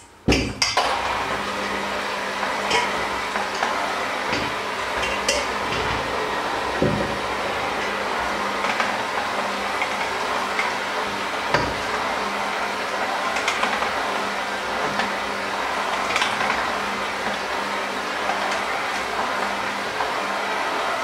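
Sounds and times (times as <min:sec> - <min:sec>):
beaters clicking on bowl: 0:00.3 - 0:17.5
electric hand mixer running: 0:00.8 - 0:21.0.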